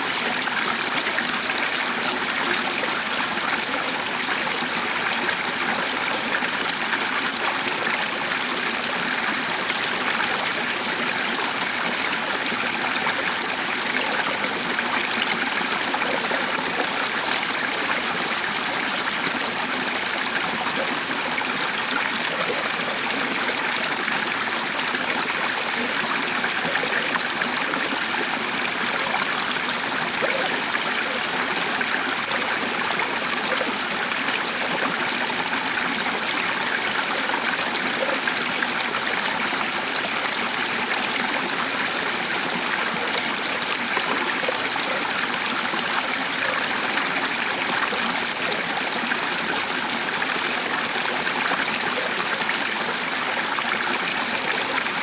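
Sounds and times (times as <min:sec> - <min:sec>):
running water stream: 0:00.0 - 0:55.0.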